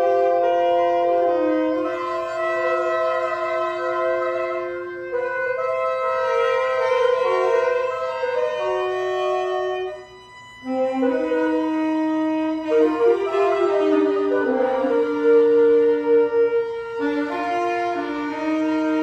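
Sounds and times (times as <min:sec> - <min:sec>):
saxophones playing long notes: 0:00.0 - 0:19.0.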